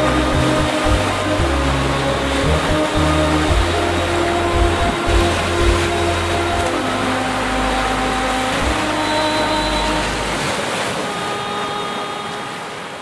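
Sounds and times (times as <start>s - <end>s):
soft held musical chords: 0.0s - 12.5s
ocean surf washing up beach: 0.0s - 13.0s.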